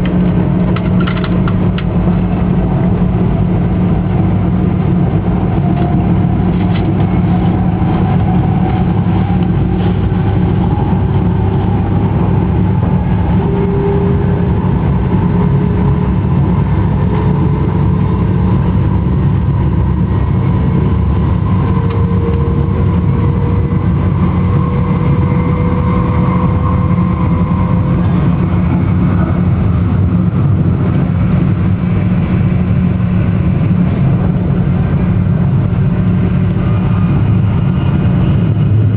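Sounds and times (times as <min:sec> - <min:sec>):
bullet train rumbling: 0:00.0 - 0:38.9.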